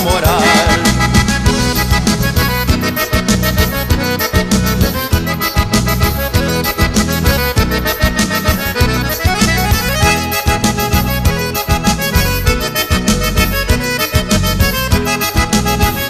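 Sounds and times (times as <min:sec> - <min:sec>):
accordion lead: 0:00.0 - 0:16.0
bass and drums dance beat: 0:00.0 - 0:16.0.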